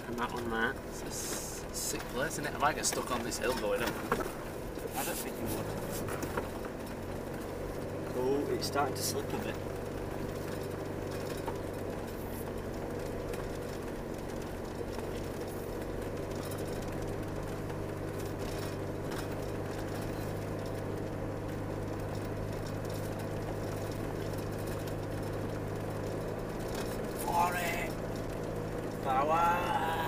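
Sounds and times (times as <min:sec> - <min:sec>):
car engine running: 0:00.0 - 0:30.0
tyre and road rumble: 0:00.0 - 0:30.0.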